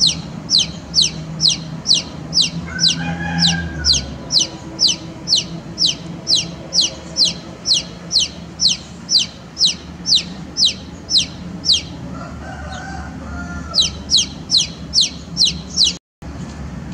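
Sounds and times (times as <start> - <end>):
baby chick peeping: 0.0 - 16.0.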